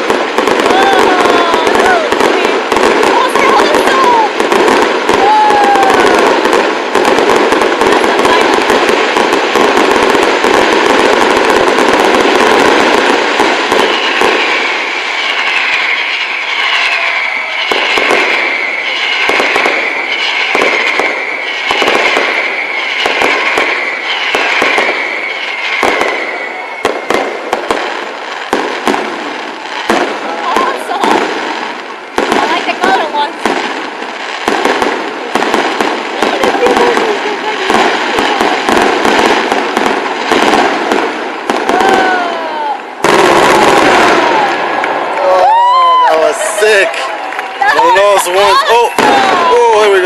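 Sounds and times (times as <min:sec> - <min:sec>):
firecracker bangs crackling: 0:00.0 - 0:50.0
firework whistles: 0:00.0 - 0:50.0.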